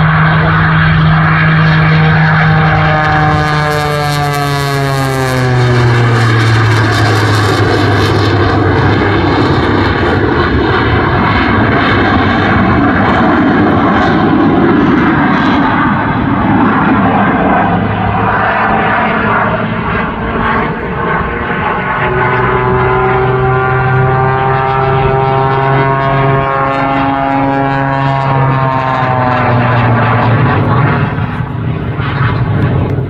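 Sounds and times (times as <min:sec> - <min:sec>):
jet engine noise: 0:00.0 - 0:33.0
propeller drone: 0:00.0 - 0:33.0.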